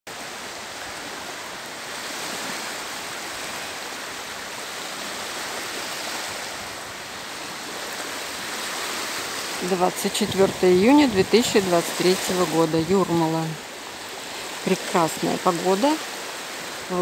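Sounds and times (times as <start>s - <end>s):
surf hissing on sandy shore: 0.1s - 17.0s.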